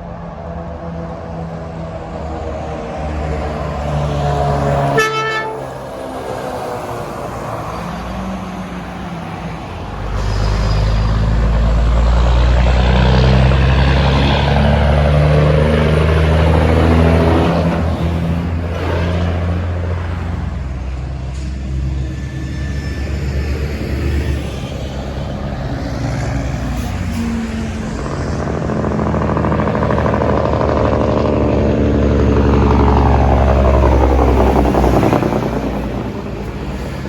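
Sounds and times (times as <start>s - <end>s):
heavy truck driving past: 0.0s - 37.0s
road noise: 0.0s - 37.0s.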